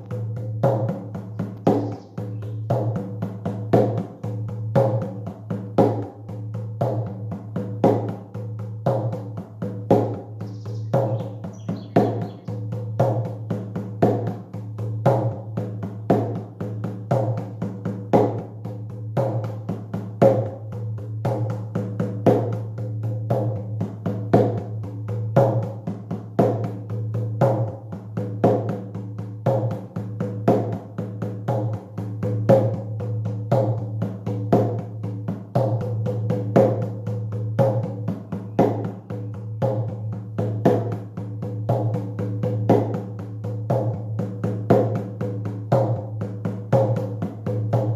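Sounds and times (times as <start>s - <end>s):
hand drum beating: 0.0s - 47.9s.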